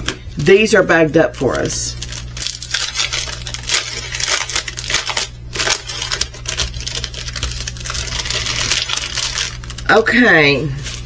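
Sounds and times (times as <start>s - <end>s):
plastic bags crinkling: 0.6s - 11.0s.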